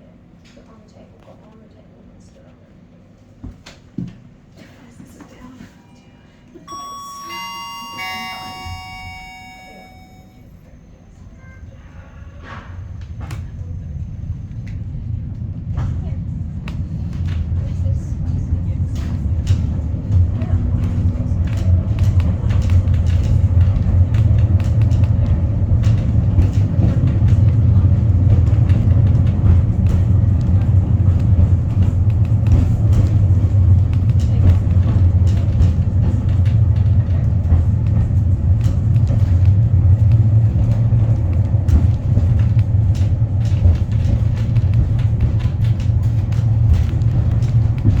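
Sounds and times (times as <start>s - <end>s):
low rumble of cable car wheels: 7.5s - 48.0s.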